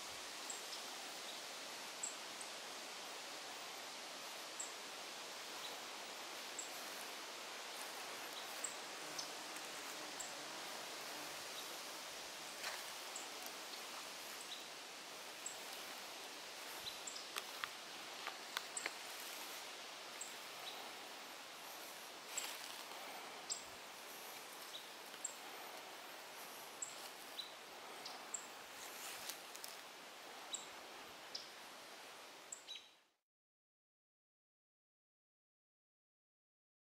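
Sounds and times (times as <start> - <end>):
steady outdoor hiss: 0.0 - 33.2.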